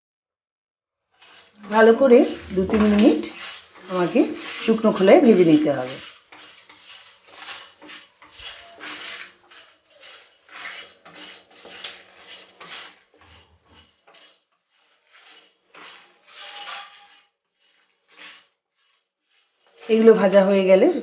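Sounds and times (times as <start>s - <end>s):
wooden spatula scraping pan: 1.0s - 21.0s
seeds rattling in pan: 1.1s - 20.6s.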